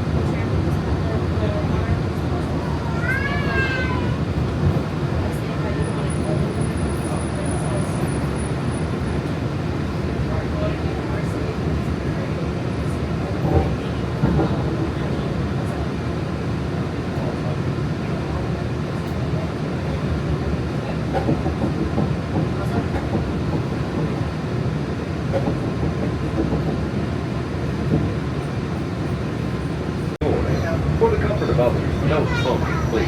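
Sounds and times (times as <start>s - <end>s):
monorail train rumbling: 0.0s - 33.0s.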